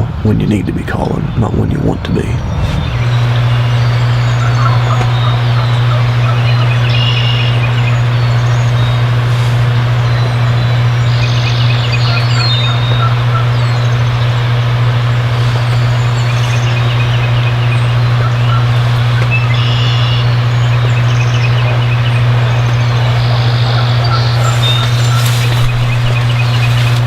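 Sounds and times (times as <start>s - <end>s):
loud steady low hum: 0.0s - 27.0s
songbirds chirping: 0.2s - 27.0s
distant turkeys gobbling: 1.4s - 27.0s.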